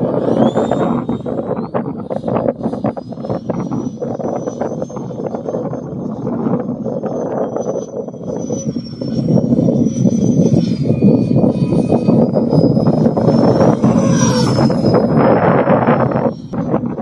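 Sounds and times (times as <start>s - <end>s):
high fan whine: 0.0s - 17.0s
model jet fan rushing: 0.0s - 17.0s.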